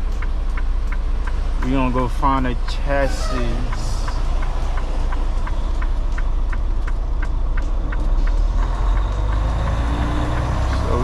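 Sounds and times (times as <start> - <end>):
steady light ticking: 0.0 - 11.0
truck diesel engine running: 0.0 - 11.0.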